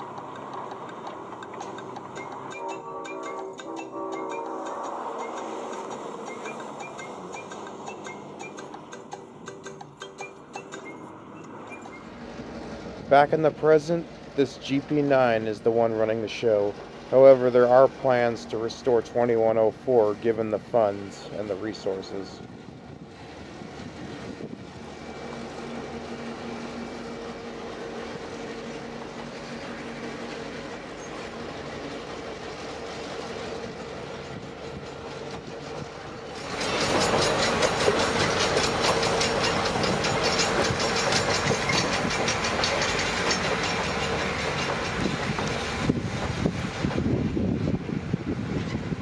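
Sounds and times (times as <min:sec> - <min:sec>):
diesel locomotive engine drone: 0:00.0 - 0:49.0
train wheels clattering on rails: 0:00.0 - 0:49.0.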